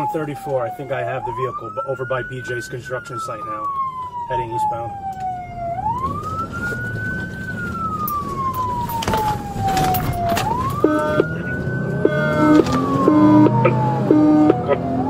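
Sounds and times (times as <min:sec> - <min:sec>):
road and engine rumble: 0:00.0 - 0:15.0
siren wailing: 0:00.0 - 0:15.0
two-tone siren: 0:00.0 - 0:15.0.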